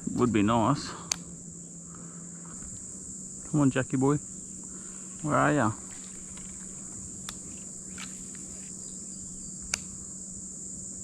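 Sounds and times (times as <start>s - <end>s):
faint low hum: 0.0s - 11.0s
high-pitched insect drone: 0.0s - 11.0s.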